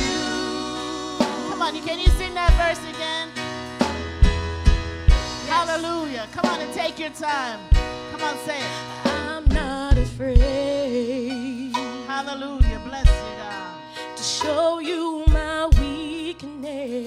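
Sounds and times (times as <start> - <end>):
woman singing: 0.0 - 3.4, 5.5 - 17.0
keyboard: 0.0 - 17.0.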